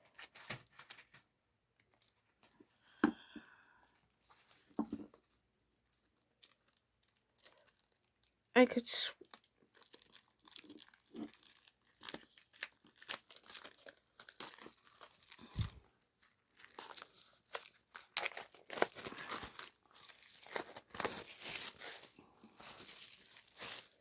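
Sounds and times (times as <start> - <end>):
packaging crinkling and rustling: 0.0 - 2.6, 3.9 - 8.5, 9.2 - 24.0.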